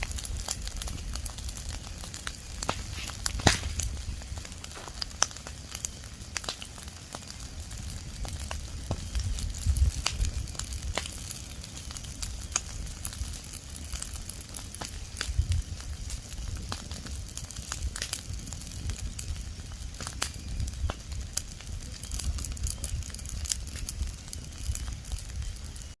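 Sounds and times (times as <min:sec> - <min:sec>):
fire crackling and popping: 0:00.0 - 0:26.0
fire low rumble: 0:00.0 - 0:26.0.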